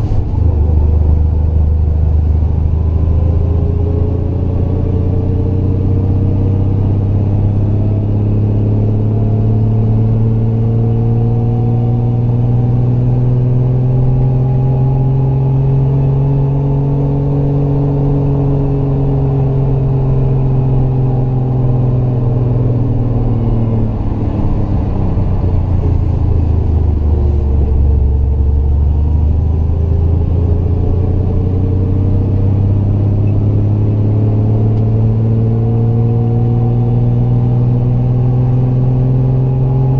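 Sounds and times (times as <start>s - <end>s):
car engine pulling uphill: 0.0s - 39.9s.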